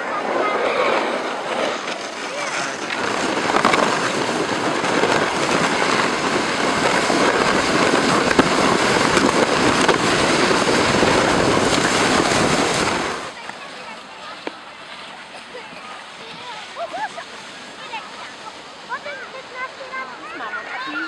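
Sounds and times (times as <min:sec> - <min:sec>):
sled scraping over snow: 0:00.0 - 0:21.0.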